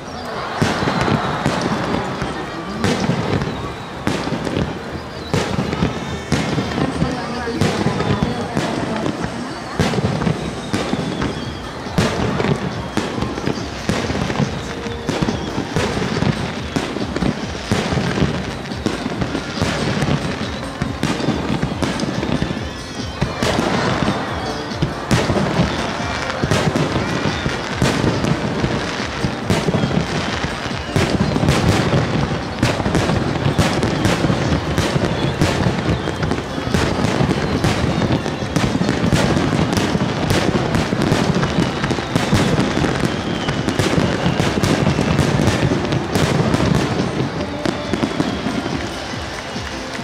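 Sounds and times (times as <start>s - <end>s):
falling firework whistles: 0.0s - 50.0s
fireworks booming and cracking: 0.0s - 50.0s.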